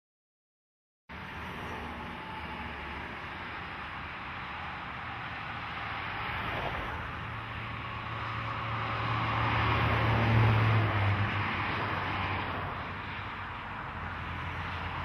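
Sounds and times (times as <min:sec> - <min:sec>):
truck diesel engine drone: 0:01.1 - 0:15.0
tyre noise of traffic: 0:01.1 - 0:15.0.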